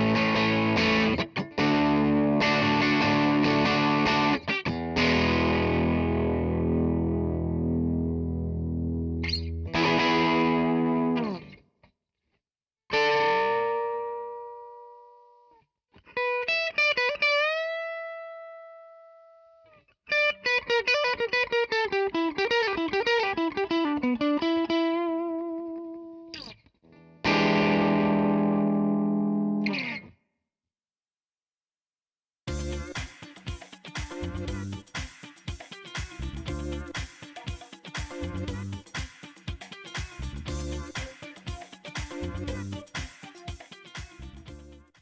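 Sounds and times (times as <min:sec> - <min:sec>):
overdriven electric guitar: 0:00.0 - 0:11.6, 0:12.9 - 0:15.2, 0:16.1 - 0:19.2, 0:20.1 - 0:30.2, 0:32.5 - 0:44.9.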